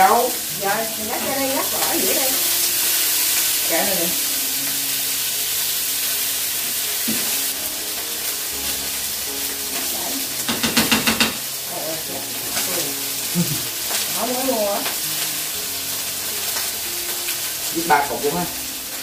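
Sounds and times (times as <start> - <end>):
steak sizzling in hot oil: 0.0 - 19.0.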